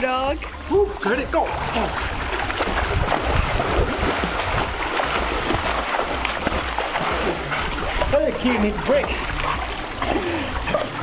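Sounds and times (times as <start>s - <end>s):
pool water splashing: 0.0s - 11.0s.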